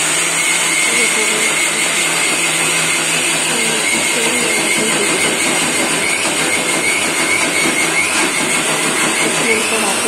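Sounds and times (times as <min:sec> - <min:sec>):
mixer grinder running: 0:00.0 - 0:10.0.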